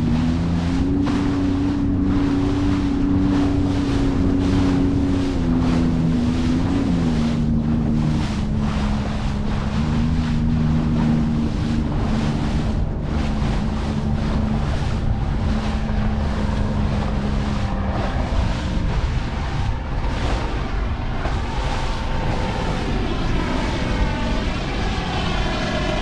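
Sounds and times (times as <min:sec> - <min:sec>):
jet ski engine running: 0:00.0 - 0:26.0
rushing water: 0:00.0 - 0:26.0
wind buffeting microphone: 0:00.0 - 0:26.0.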